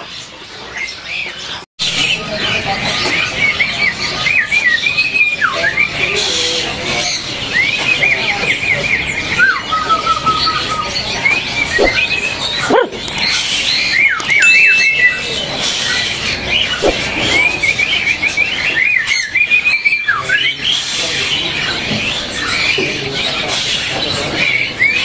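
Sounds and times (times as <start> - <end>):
songbirds chirping and whistling: 0.0 - 25.0.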